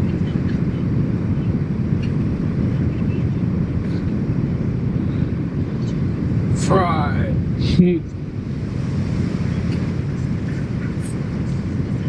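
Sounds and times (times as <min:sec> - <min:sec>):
jet cabin low rumble: 0:00.0 - 0:12.0.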